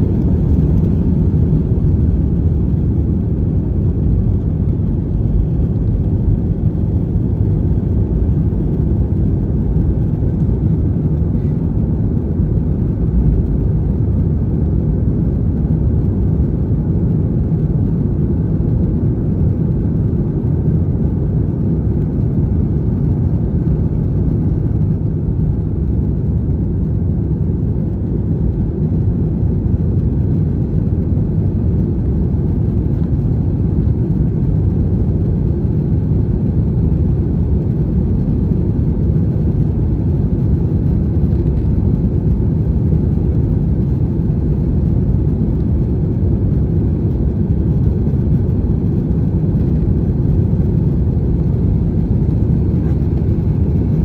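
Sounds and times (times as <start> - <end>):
jet engines heard from cabin: 0.0 - 54.0.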